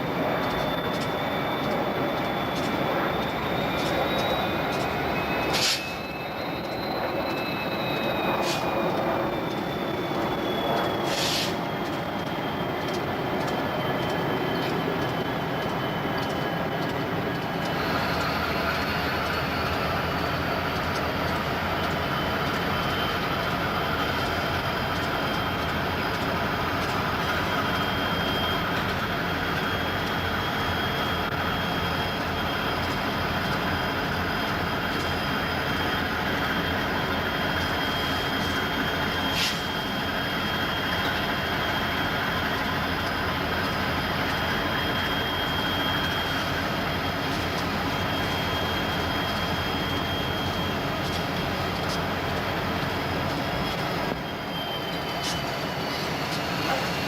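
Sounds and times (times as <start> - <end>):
freight train rumble: 0.0 - 57.0
wheels squealing on rail: 0.0 - 57.0.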